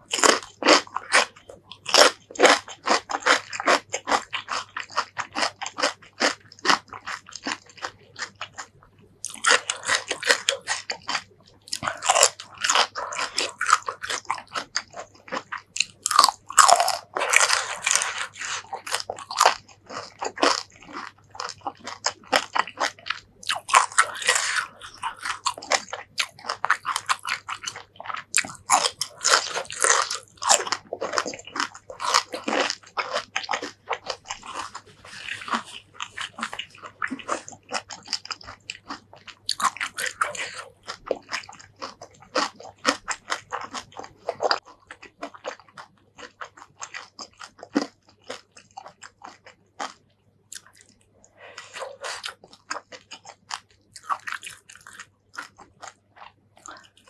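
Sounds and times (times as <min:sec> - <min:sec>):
chewing: 0:00.0 - 0:57.0
crunching bites: 0:00.1 - 0:57.0.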